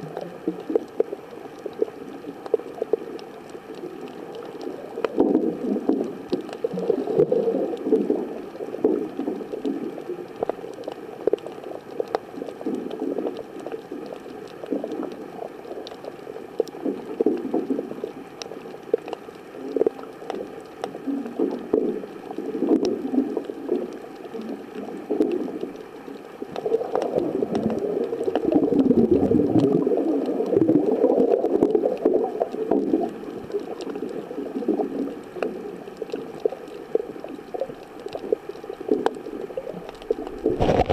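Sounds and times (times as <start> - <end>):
faint clicks: 0.0 - 40.9
underwater gurgling and sloshing: 0.0 - 40.9.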